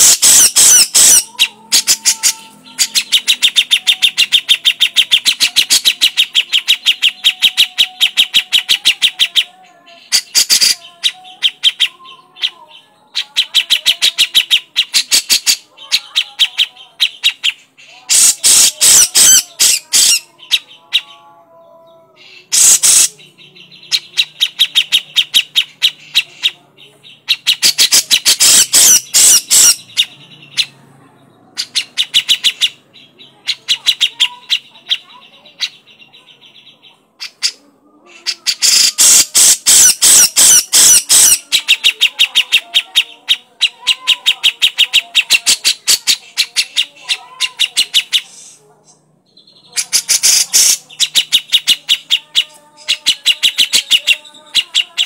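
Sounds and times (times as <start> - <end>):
bird chattering call: 0.0 - 9.5, 10.1 - 21.1, 22.4 - 26.6, 27.2 - 30.8, 31.6 - 37.6, 38.2 - 48.6, 49.4 - 55.0.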